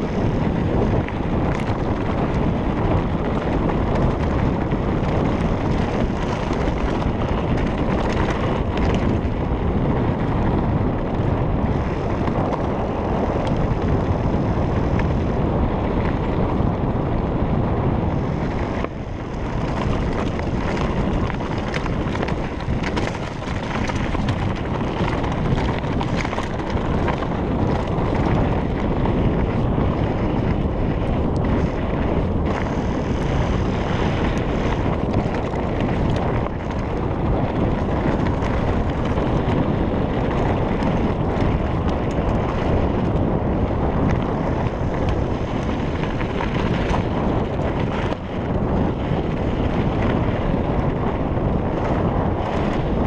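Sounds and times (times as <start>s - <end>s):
bike clicks and rattles: 0.0s - 53.0s
bike riding rumble: 0.0s - 53.0s
wind rushing over microphone: 0.0s - 53.0s.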